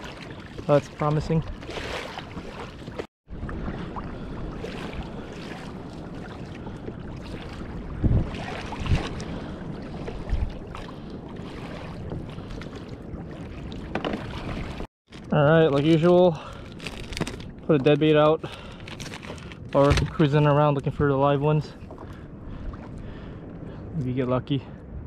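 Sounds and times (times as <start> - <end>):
water lapping against kayak hull: 0.0 - 23.8
wind buffeting microphone: 0.8 - 14.8, 15.6 - 25.0.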